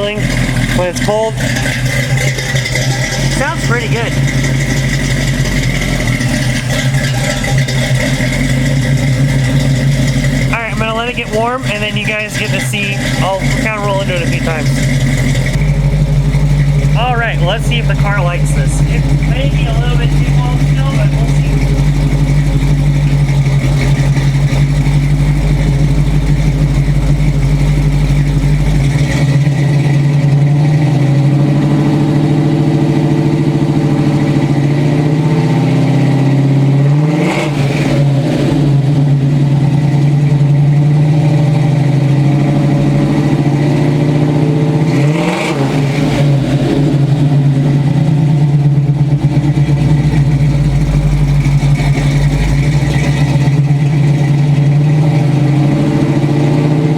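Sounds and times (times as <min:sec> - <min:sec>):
car engine idling and revving: 0:00.0 - 0:56.9.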